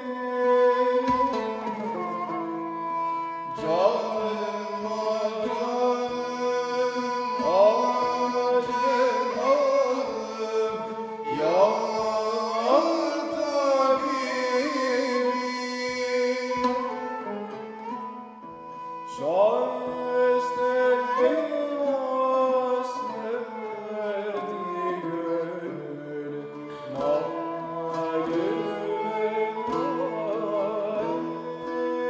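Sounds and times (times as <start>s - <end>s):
bowed string instrument: 0.0s - 32.0s
plucked lutes: 0.0s - 32.0s.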